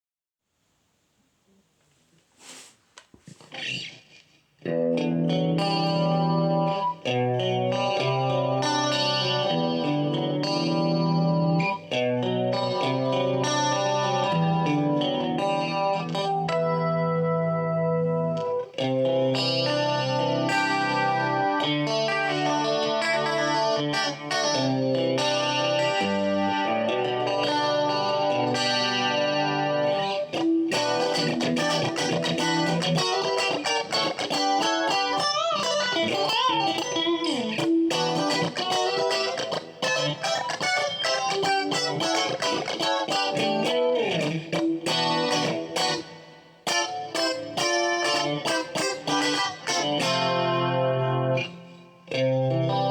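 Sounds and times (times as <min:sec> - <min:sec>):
clean electric guitar: 0:03.4 - 0:52.9.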